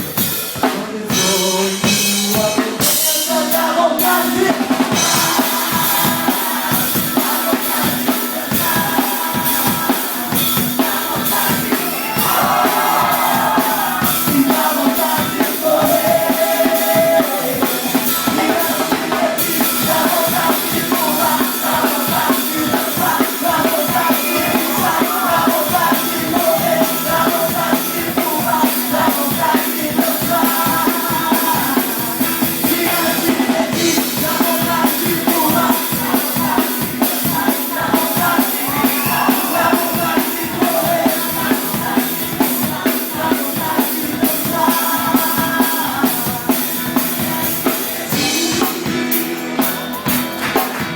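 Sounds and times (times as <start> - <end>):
person singing: 0.0 - 50.8
drum kit beat: 0.0 - 50.9
live band playing: 0.0 - 50.9.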